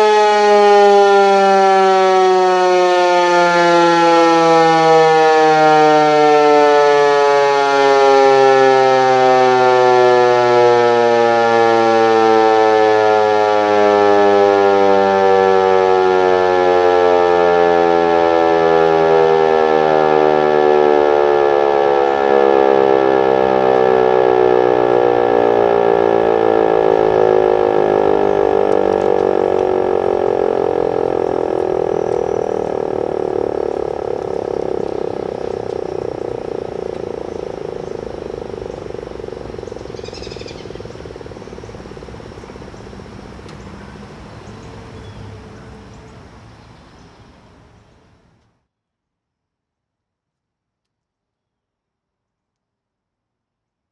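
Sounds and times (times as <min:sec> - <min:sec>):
mechanical siren winding down: 0:00.0 - 0:46.0.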